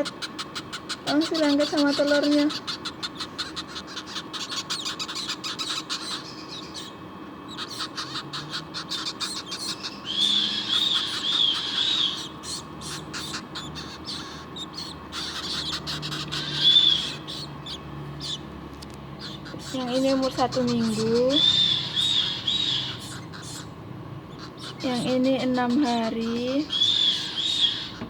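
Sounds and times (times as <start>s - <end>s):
parrot chicks chattering: 0.0s - 28.0s.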